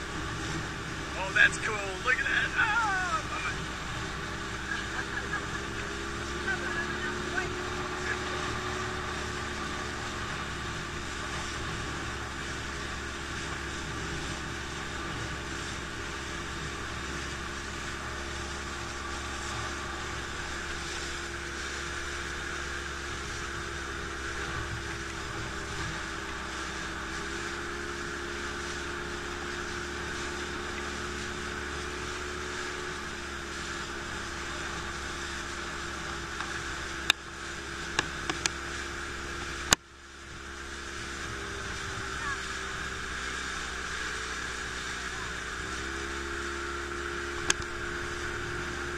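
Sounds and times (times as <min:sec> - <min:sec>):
motor humming and whining: 0:00.0 - 0:48.9.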